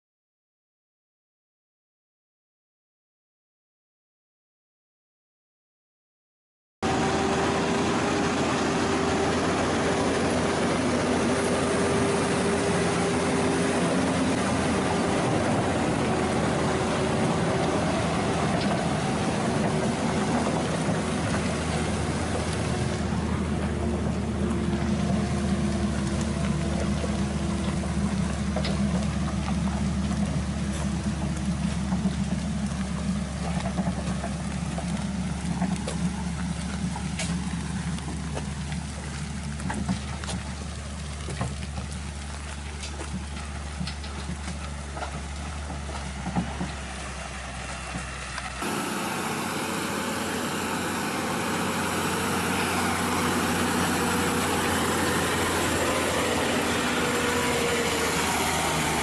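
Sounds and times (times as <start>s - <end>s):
diesel truck engine under load: 6.8s - 59.0s.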